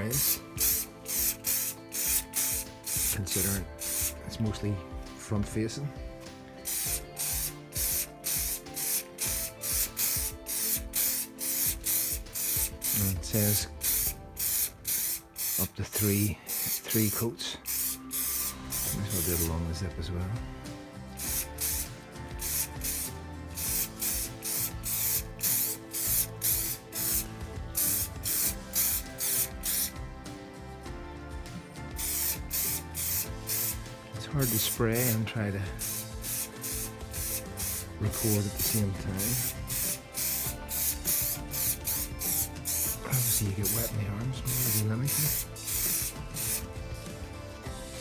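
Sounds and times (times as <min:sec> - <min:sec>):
aerosol spray hissing bursts: 0:00.0 - 0:04.4, 0:06.6 - 0:19.7, 0:21.1 - 0:30.0, 0:31.9 - 0:46.8
background music: 0:00.0 - 0:48.0.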